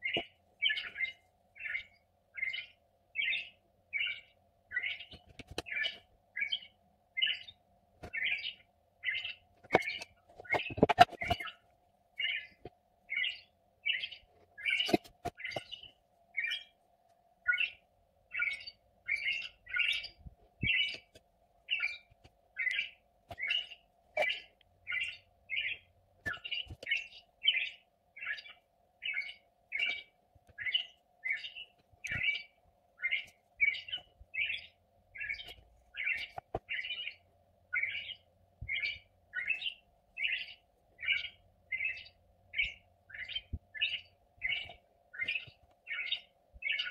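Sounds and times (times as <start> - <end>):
bird chirping: 0.0 - 16.8, 17.4 - 46.9.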